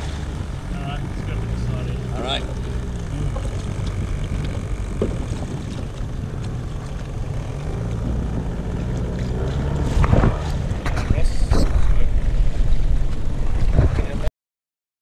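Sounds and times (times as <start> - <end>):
boat engine running: 0.0 - 14.3
rush of noise: 0.0 - 14.3.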